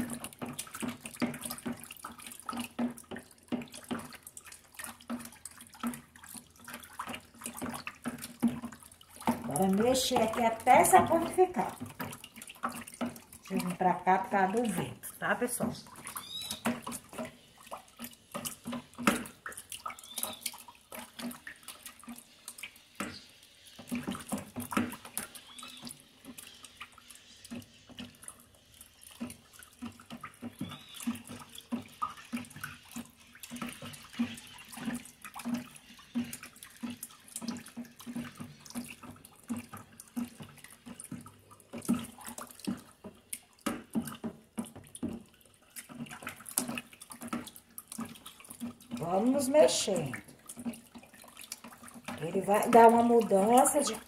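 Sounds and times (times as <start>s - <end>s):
liquid sloshing and swishing: 0.0s - 54.0s.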